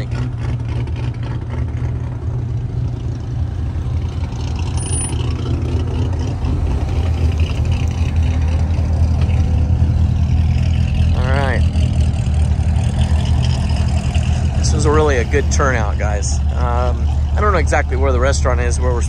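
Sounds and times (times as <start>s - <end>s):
car engines idling: 0.0s - 19.0s.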